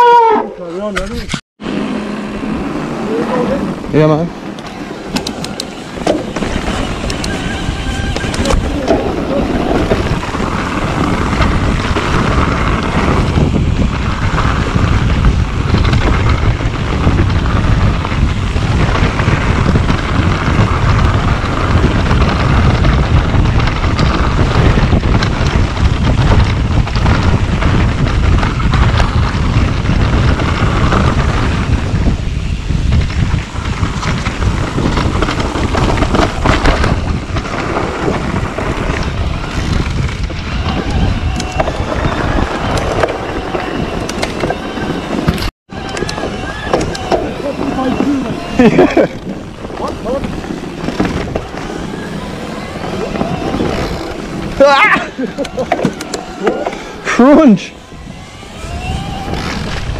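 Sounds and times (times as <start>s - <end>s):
tyres rolling on dirt trail: 0.0s - 59.9s
wind rushing over microphone: 0.0s - 59.9s
bike knocks and rattles: 4.4s - 56.8s.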